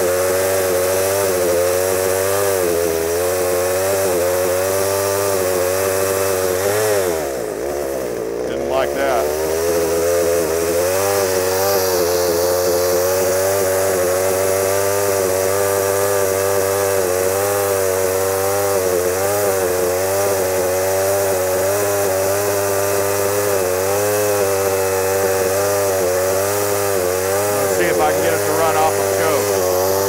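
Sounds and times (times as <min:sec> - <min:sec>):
chainsaw engine running unevenly: 0:00.0 - 0:30.0.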